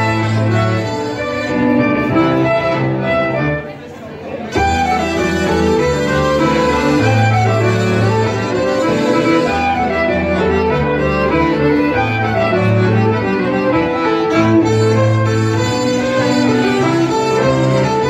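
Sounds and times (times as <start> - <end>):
band playing dance tune: 0.0 - 3.8, 4.4 - 18.0
fiddle melody: 0.0 - 18.0.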